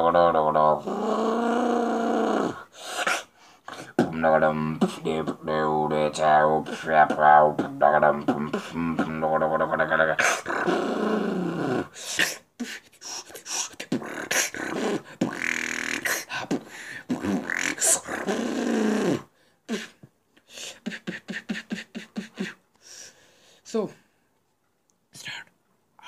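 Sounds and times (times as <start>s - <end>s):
vocal beatboxing: 0.0s - 20.0s, 20.6s - 22.6s.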